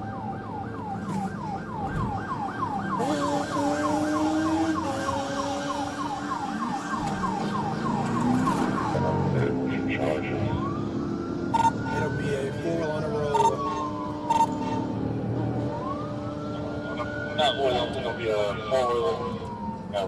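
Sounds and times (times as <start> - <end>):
police siren yelping: 0.0 - 20.0
vehicle engine: 0.0 - 20.0.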